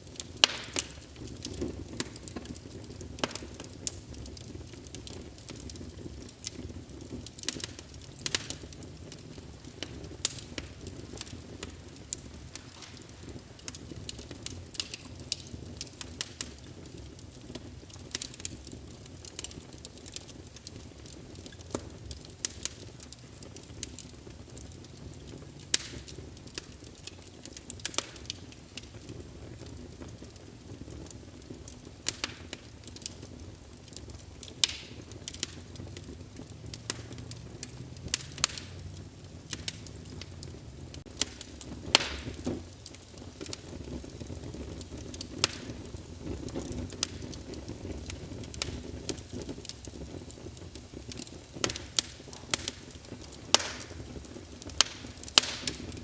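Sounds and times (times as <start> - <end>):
low rumble of burning logs: 0.0 - 56.0
sharp pops of fire: 0.0 - 56.0
wood fire crackling: 0.0 - 56.0.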